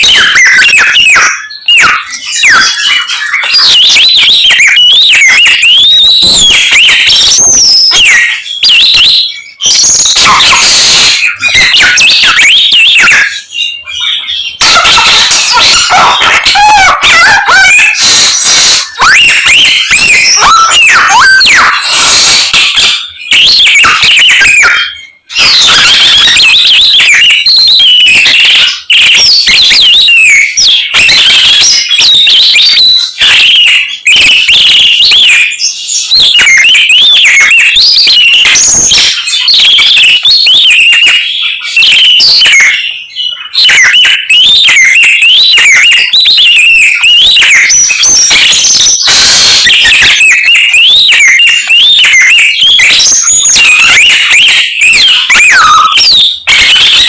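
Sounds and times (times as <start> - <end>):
songbird singing: 0.0 - 49.5.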